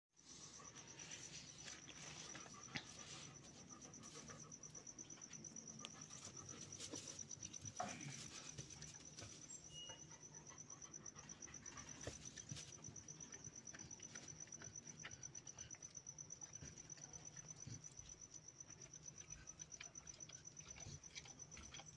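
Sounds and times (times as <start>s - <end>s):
cricket chirping: 0.2s - 21.9s.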